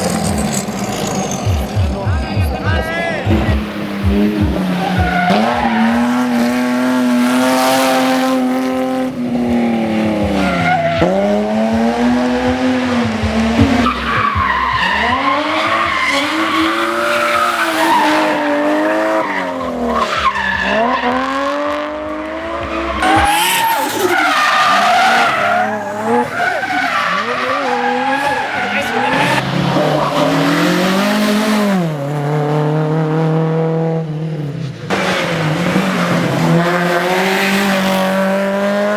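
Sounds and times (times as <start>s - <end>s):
race car engine at hard throttle: 0.0s - 38.9s.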